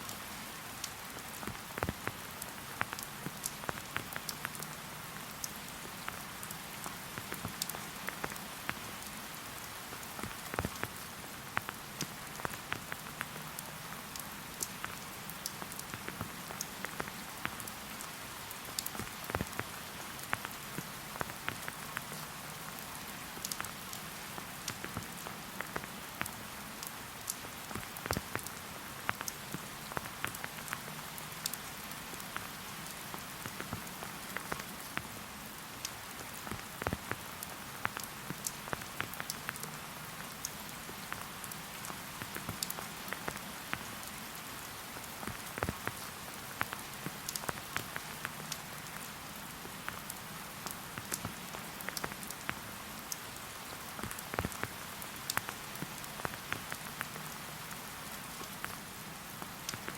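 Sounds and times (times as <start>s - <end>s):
steady rain with tapping drops: 0.0s - 59.9s.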